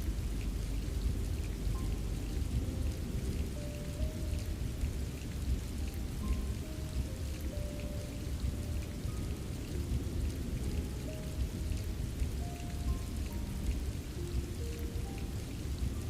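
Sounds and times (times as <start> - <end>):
deep low rumble: 0.0 - 15.0
faint held music notes: 0.0 - 16.0
rain drop ticks: 0.0 - 16.0
steady rain: 0.0 - 16.0.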